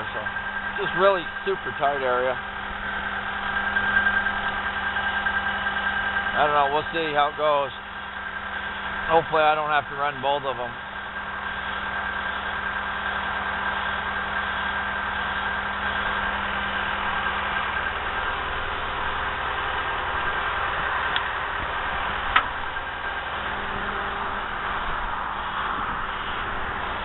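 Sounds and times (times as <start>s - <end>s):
skid steer engine running: 0.0s - 27.0s.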